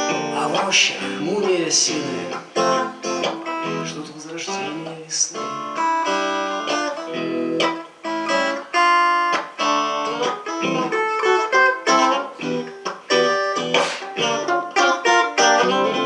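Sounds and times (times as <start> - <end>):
guitar chords strummed and plucked: 0.0 - 16.0.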